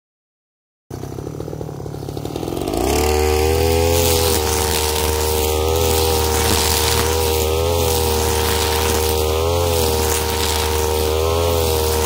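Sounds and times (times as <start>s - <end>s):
brushcutter engine revving: 0.9s - 12.0s.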